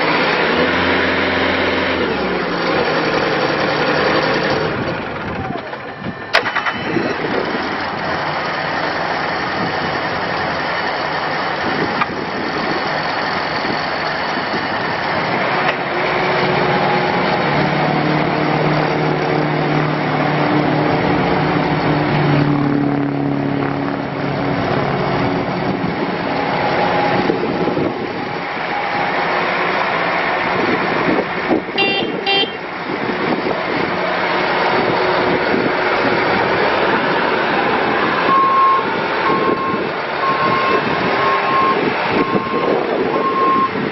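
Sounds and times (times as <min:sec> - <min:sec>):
diesel engine of loader: 0:00.0 - 0:43.9.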